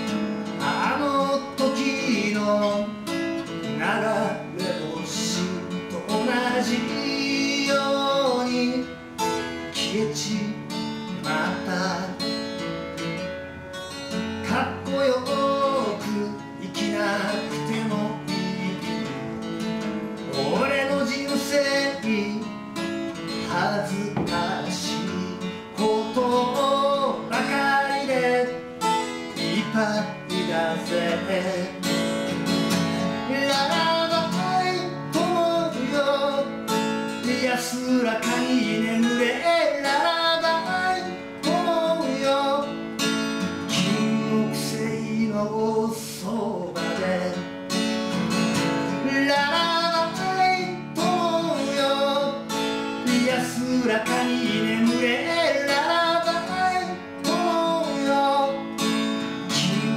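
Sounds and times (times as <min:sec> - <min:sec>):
man singing: 0:00.0 - 0:12.7, 0:13.9 - 0:59.9
acoustic guitar strumming: 0:00.0 - 0:59.9.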